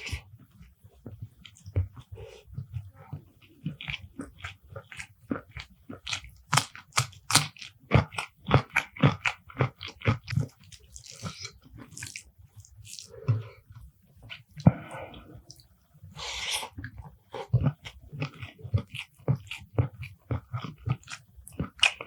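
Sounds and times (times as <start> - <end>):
crunchy chewing: 1.5 - 22.0.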